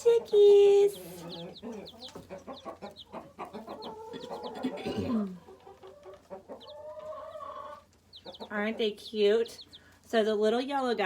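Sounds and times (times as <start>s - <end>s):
chickens clucking: 0.0s - 10.8s
baby chicks peeping: 0.0s - 11.0s.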